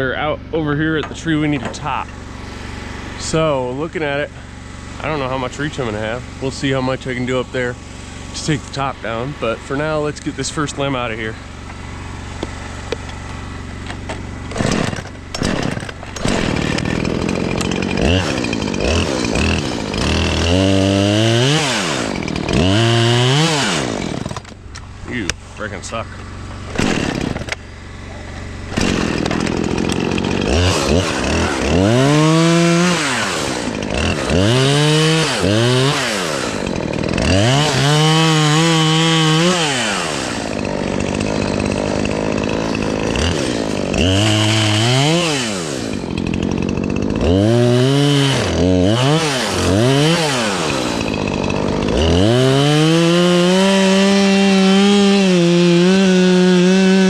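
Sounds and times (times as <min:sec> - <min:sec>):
chainsaw revving: 0:00.0 - 0:57.0
chainsaw cutting a tree limb: 0:01.0 - 0:57.0.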